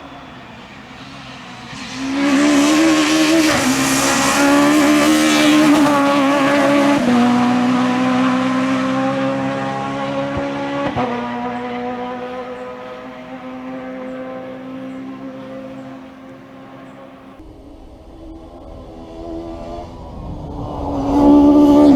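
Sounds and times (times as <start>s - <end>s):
rally car engine at high revs: 0.0s - 17.4s, 18.3s - 21.9s.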